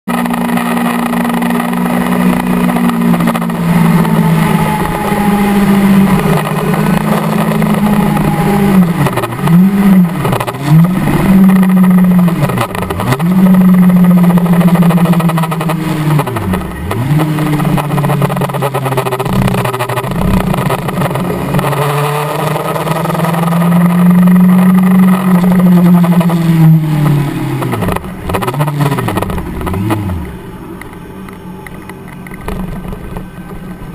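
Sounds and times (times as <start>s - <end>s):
motorcycle engine at high revs: 0.1s - 33.9s.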